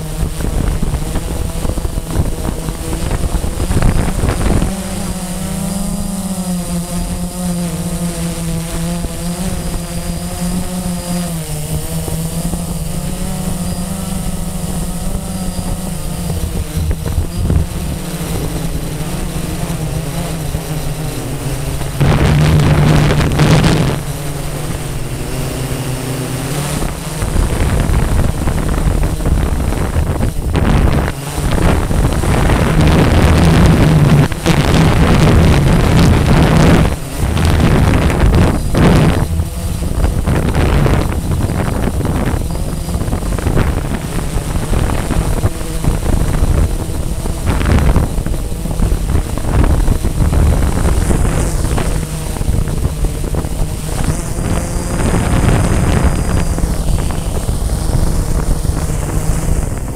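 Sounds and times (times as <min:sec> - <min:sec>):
drone motors humming: 0:00.0 - 0:59.9
wind buffeting microphone: 0:00.0 - 0:59.9.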